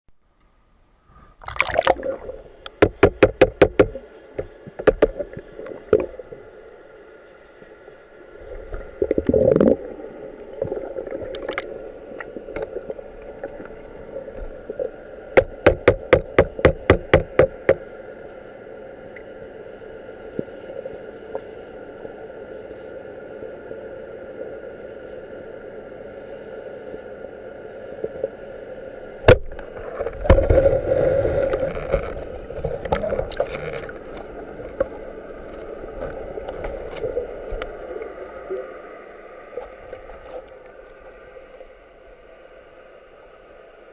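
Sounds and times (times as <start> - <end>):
steady underwater hum: 0.2 - 43.9.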